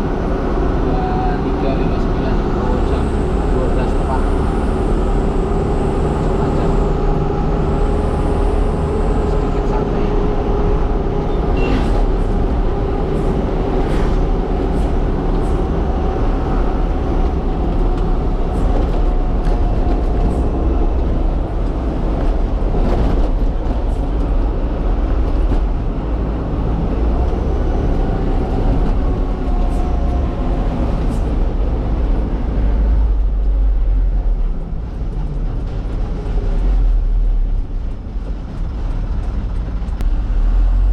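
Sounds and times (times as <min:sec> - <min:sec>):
road noise: 0:00.0 - 0:40.9
truck engine rumbling: 0:00.0 - 0:40.9.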